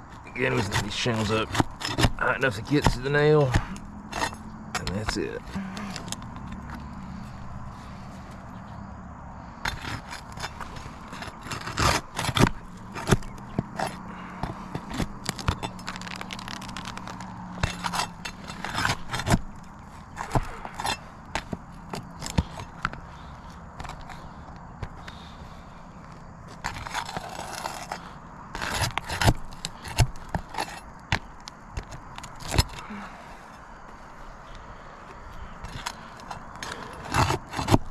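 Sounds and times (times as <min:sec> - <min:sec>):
pry tool clicking and scraping shingles: 0:00.0 - 0:07.5, 0:09.6 - 0:33.1, 0:34.5 - 0:37.9.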